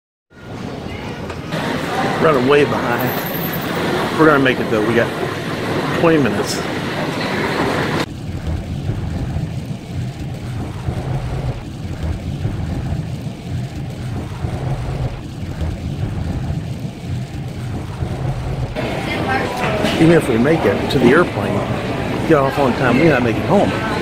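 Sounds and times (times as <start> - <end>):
car engine and road noise: 1.3 - 24.0.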